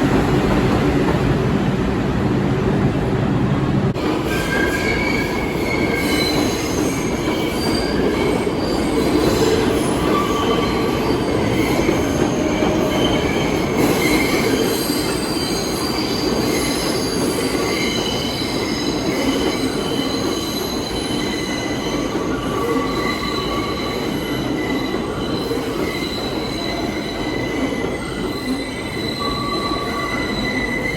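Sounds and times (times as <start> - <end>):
subway train rumbling: 0.0 - 30.9
wheels squealing on rails: 4.0 - 30.9.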